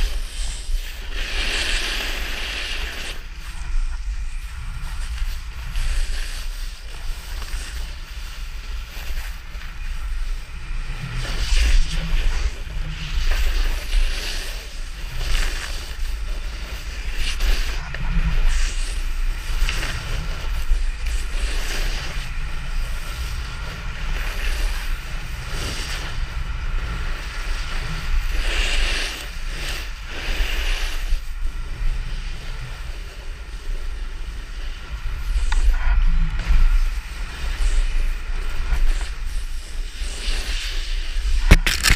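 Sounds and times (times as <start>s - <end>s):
low rumble: 0.0s - 41.9s
snowboard edge hissing through snow: 0.0s - 41.9s
wind buffeting microphone: 0.0s - 41.9s.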